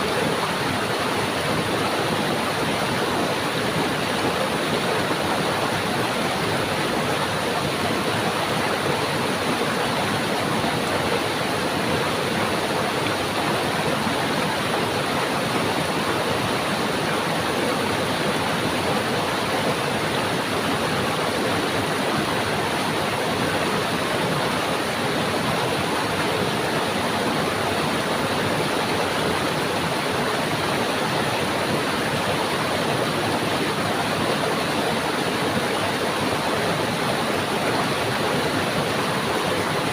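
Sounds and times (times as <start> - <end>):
stream water running over rocks: 0.0 - 39.9.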